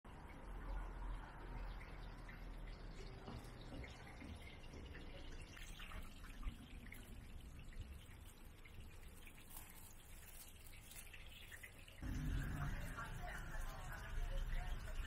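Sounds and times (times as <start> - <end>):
faint background noise: 0.1 - 15.0.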